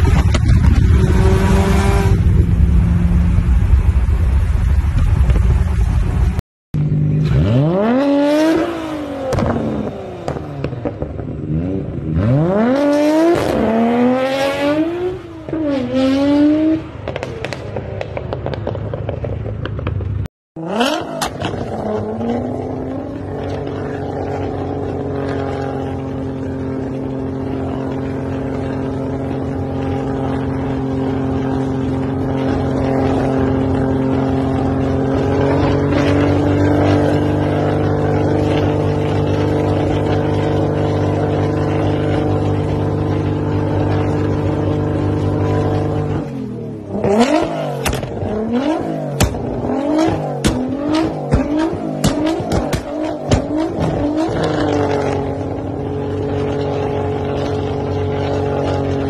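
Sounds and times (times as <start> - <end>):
car engine revving: 0.0 - 20.0, 20.6 - 59.0.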